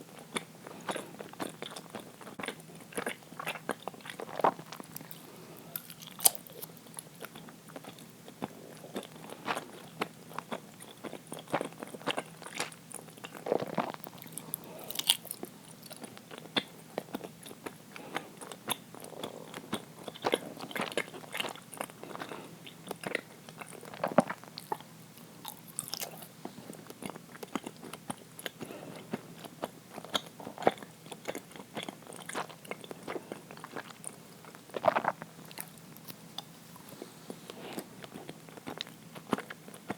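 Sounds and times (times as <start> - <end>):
person chewing sticky food: 0.1 - 39.9.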